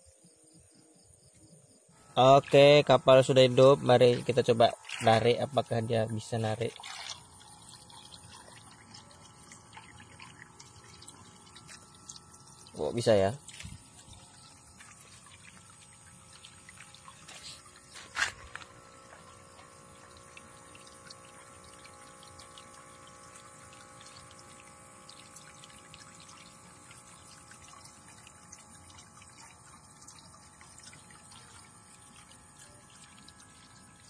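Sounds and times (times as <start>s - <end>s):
small electric motor whine: 0.0s - 34.0s
water trickling: 1.9s - 34.0s.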